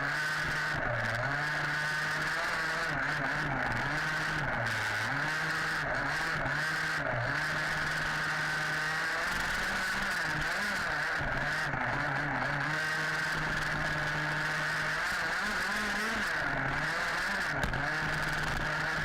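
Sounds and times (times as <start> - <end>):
two-stroke engine revving: 0.0 - 19.0
rattle and rush of noise: 0.1 - 19.0.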